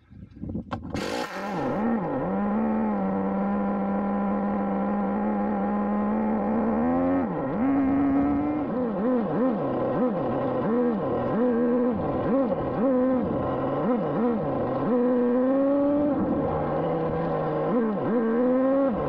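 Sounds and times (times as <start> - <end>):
engine throttle blips: 0.7 - 19.0
loud engine rush: 0.8 - 19.0
nitro engine idling: 0.8 - 19.0.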